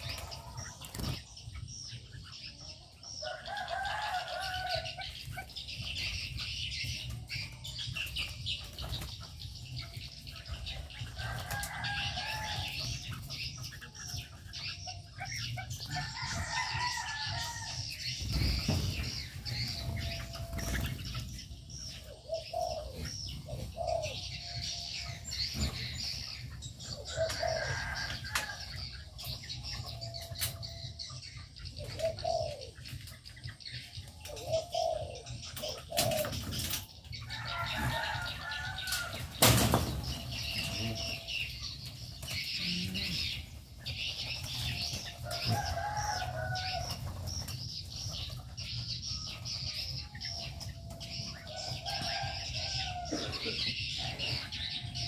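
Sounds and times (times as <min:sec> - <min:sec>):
doves cooing: 0:00.0 - 0:01.7, 0:03.2 - 0:09.0, 0:14.6 - 0:28.9, 0:31.5 - 0:55.0
birds chirping: 0:00.0 - 0:55.0.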